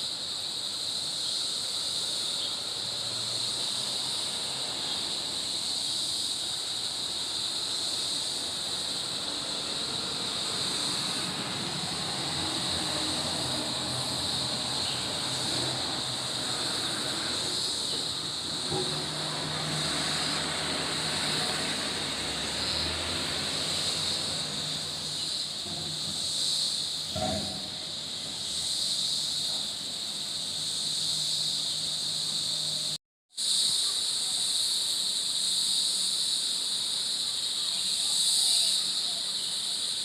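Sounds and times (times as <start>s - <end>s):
chorus of forest insects: 0.0s - 40.0s.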